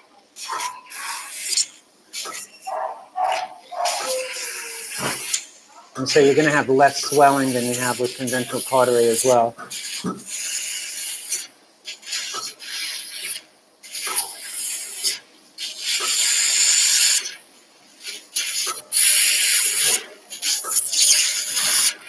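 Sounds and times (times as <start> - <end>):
surgical suction hissing: 0.4 - 17.4, 18.0 - 22.0.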